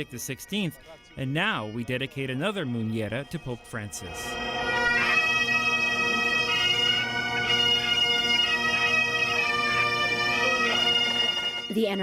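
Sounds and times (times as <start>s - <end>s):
bagpipe band playing melody: 0.0s - 12.0s.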